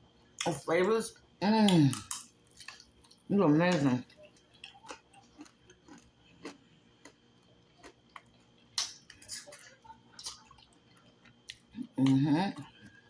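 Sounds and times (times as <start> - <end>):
person chewing: 1.6 - 13.0.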